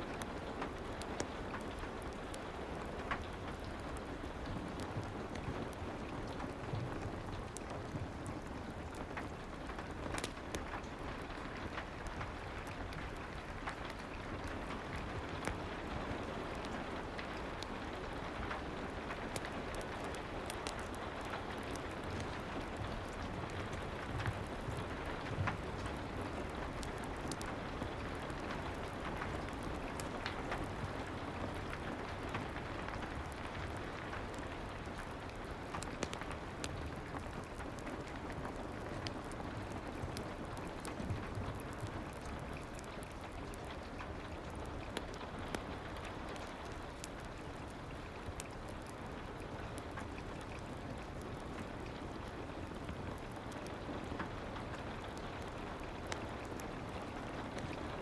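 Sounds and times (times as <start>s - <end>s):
fireplace crackles and ticks: 0.0s - 58.0s
soft rain hissing: 0.0s - 58.0s.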